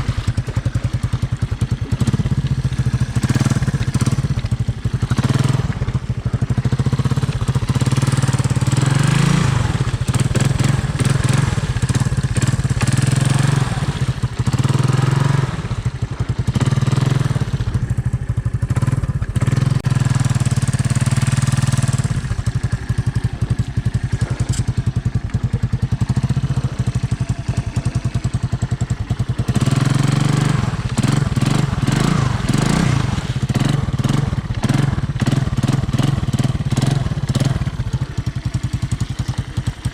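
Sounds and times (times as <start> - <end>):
single-cylinder engine running: 0.0 - 39.9.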